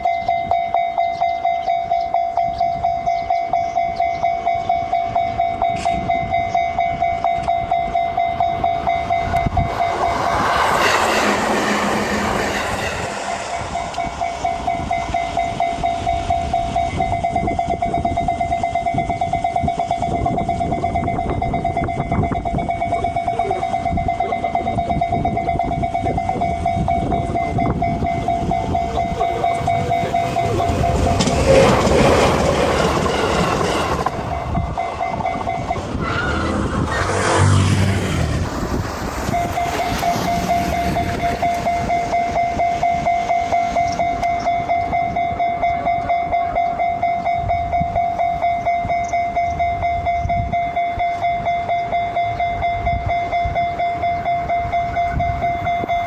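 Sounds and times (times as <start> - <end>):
train rail noise: 0.0 - 56.0.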